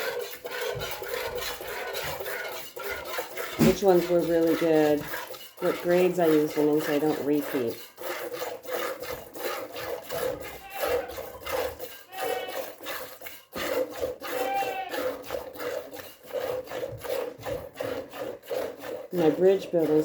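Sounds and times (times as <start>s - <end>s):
milk squirting into metal pail: 0.0s - 20.0s.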